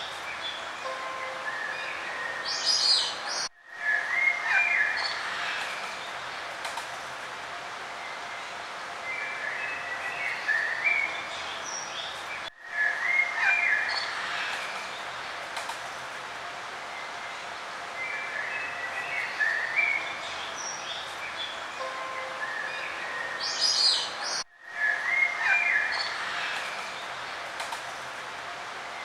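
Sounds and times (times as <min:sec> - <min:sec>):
songbirds chirping and trilling: 0:00.0 - 0:06.6, 0:07.5 - 0:15.8, 0:16.4 - 0:29.0
steady outdoor hiss: 0:00.0 - 0:29.0.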